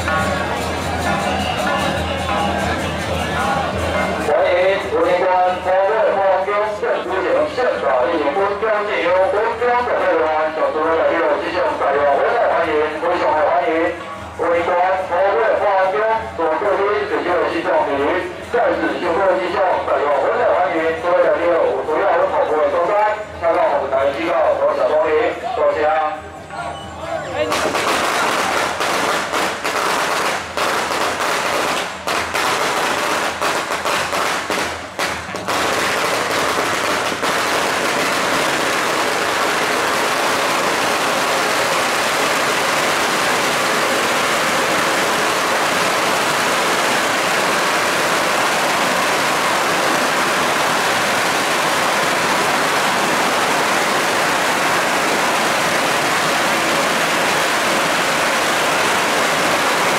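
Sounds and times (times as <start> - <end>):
firecrackers crackling: 0.0 - 24.8, 27.4 - 59.9.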